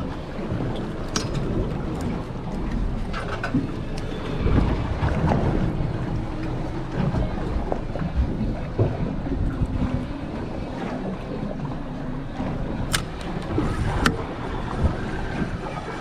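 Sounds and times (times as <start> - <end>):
water sounds: 0.0 - 16.0
wind buffeting microphone: 0.0 - 16.0.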